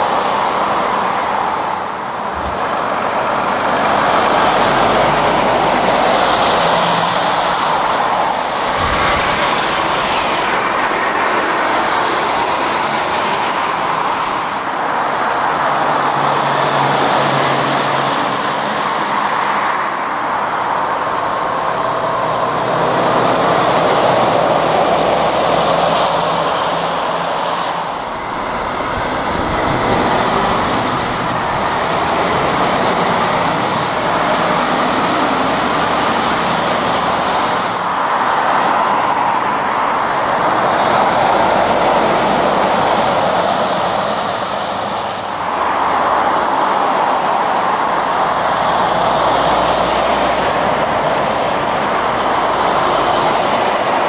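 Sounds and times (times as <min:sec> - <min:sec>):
tyres swishing on wet road: 0:00.0 - 0:54.0
vehicle engines droning: 0:00.0 - 0:54.0.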